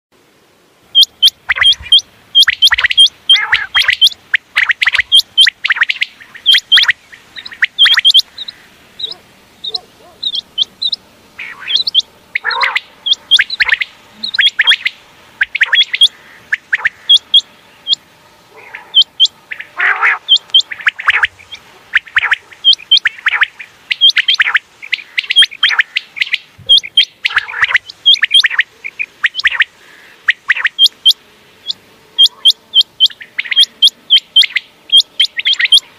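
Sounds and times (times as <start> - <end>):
quail calling: 0.9 - 35.9.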